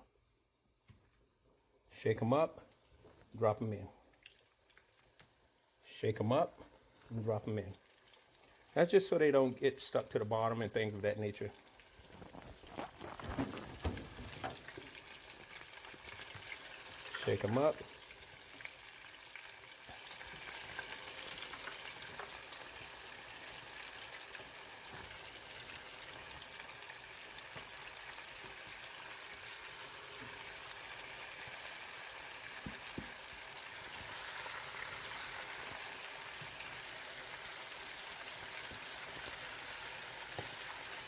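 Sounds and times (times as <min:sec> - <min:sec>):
chicken frying in hot oil: 0:00.8 - 0:41.0.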